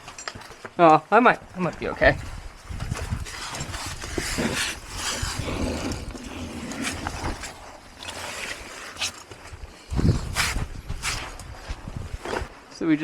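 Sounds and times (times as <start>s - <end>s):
shoes scraping on rock: 1.5s - 12.7s.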